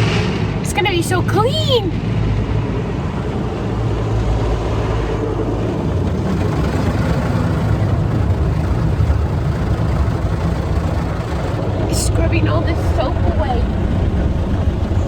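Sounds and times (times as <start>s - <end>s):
car wash machinery rumble: 0.0s - 15.0s.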